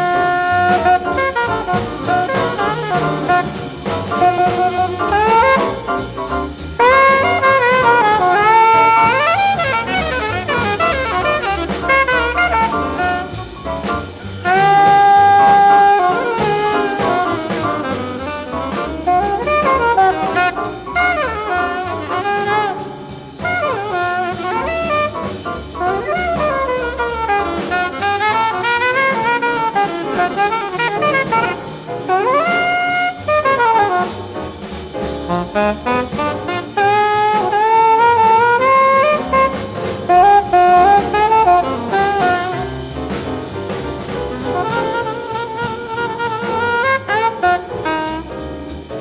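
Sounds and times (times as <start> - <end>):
horn solo: 0.0 - 49.0
jazz group playing: 0.0 - 49.0.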